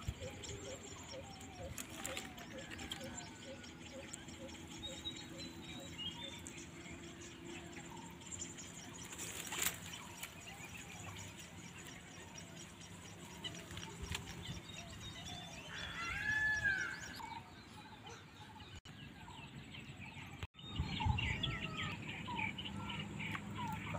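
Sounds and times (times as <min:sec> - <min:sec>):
wild birds calling and chirping: 0:00.0 - 0:23.9.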